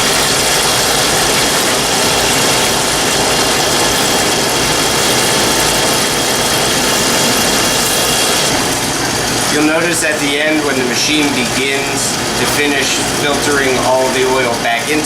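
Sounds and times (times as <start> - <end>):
pump running with rushing hiss: 0.0 - 15.0.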